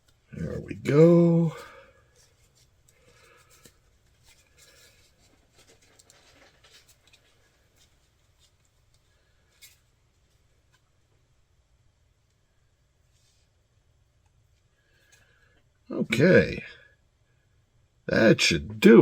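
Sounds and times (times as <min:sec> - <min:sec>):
faint scratching and handling: 0:00.0 - 0:11.6, 0:12.2 - 0:16.4.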